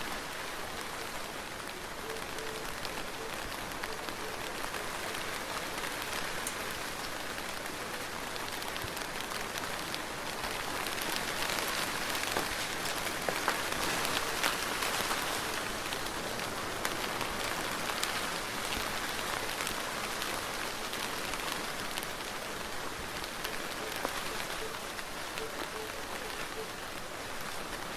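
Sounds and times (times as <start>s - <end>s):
soft rain falling: 0.0s - 27.9s.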